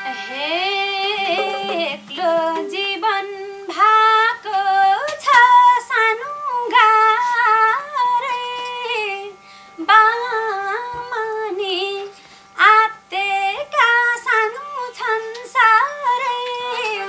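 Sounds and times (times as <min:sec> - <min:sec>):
faint low hum: 0:00.0 - 0:17.0
woman singing unaccompanied: 0:00.0 - 0:17.0.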